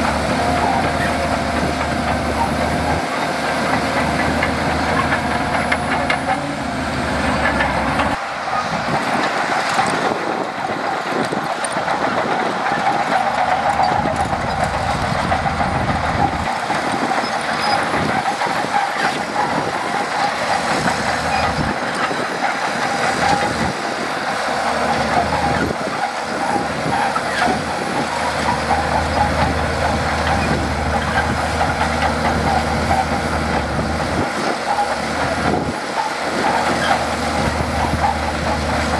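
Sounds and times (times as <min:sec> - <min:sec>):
bulldozer diesel engine under load: 0:00.0 - 0:38.9
steel tracks moving: 0:00.0 - 0:38.9.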